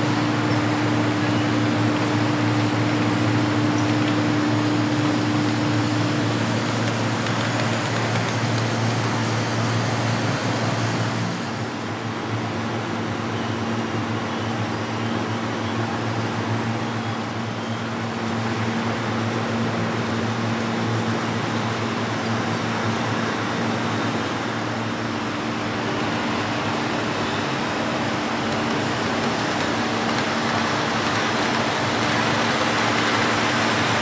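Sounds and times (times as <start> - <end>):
model trains humming and hissing: 0.0 - 34.0.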